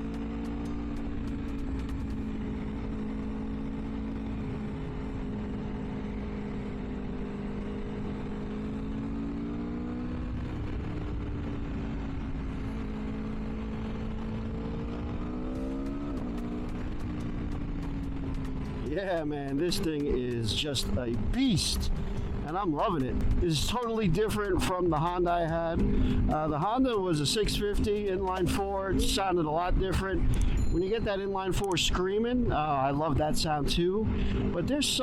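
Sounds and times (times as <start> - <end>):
motorcycle engine cruising: 0.0 - 35.0.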